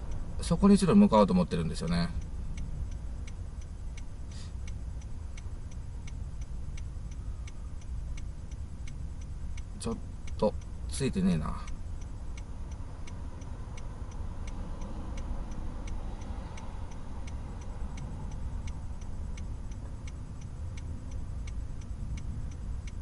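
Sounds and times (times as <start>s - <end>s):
car engine low rumble: 0.0s - 23.0s
turn signal clicking: 0.0s - 23.0s.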